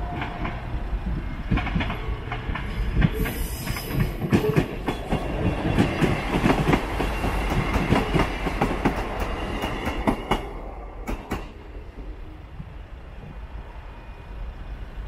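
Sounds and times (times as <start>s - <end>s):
train engine rumble: 0.0s - 15.0s.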